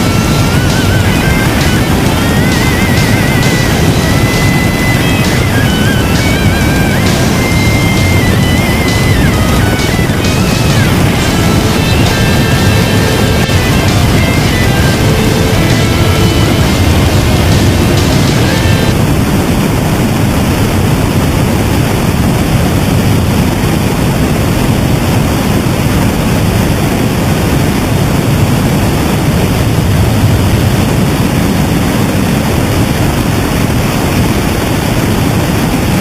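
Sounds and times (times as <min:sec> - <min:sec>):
loud steady rushing noise: 0:00.0 - 0:36.0.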